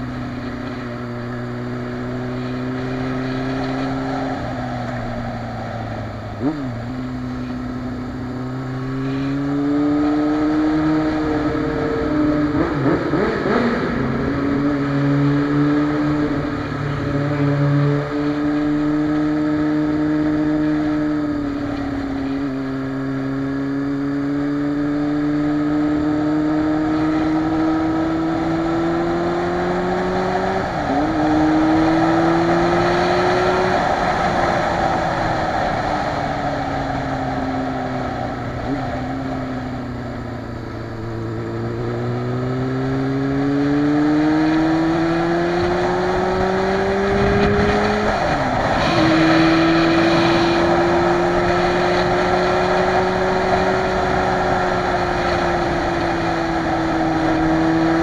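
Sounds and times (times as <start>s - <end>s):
motorcycle engine cruising: 0.0s - 58.0s
road and wind noise: 0.0s - 58.0s.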